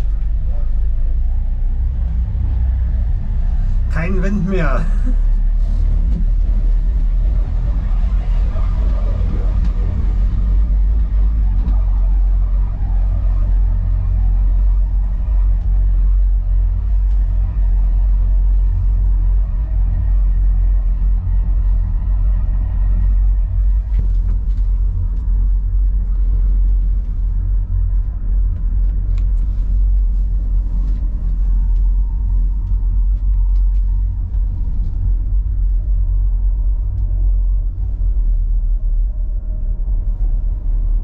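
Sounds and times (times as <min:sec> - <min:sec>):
gondola cabin rumble: 0:00.0 - 0:41.0.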